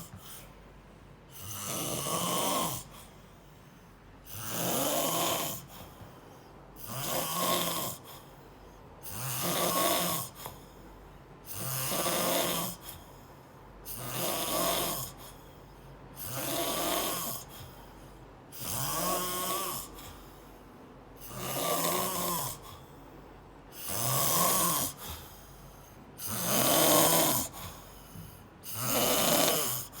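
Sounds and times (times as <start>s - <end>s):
person snoring: 1.3s - 3.5s, 4.2s - 6.1s, 6.8s - 8.4s, 9.0s - 10.8s, 11.4s - 20.5s, 21.2s - 23.0s, 23.7s - 30.0s.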